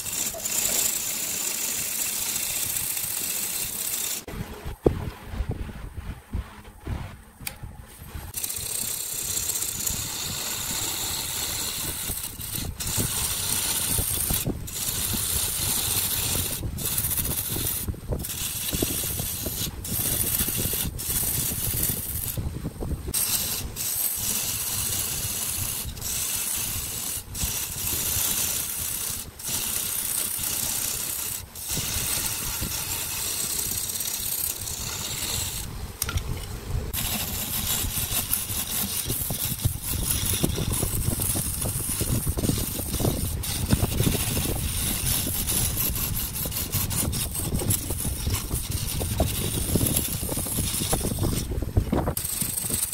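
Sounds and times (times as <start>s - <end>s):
turning tool shaving wood: 0.0s - 4.3s, 8.3s - 52.9s
wood lathe rumble: 0.0s - 4.3s, 8.3s - 22.4s, 23.1s - 36.2s, 36.9s - 52.9s.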